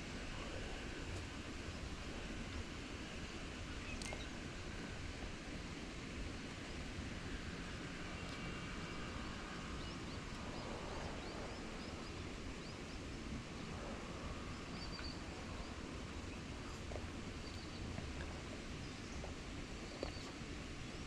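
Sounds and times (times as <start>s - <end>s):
outdoor ambient noise: 0.0s - 21.0s.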